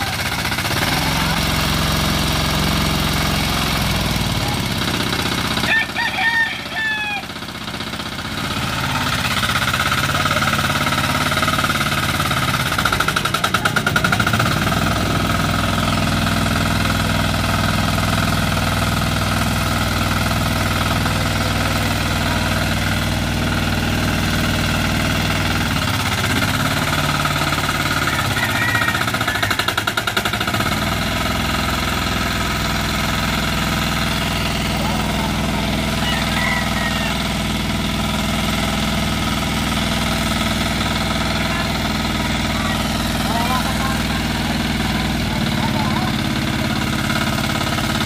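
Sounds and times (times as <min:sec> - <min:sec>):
hand tractor engine chugging: 0:00.0 - 0:48.0.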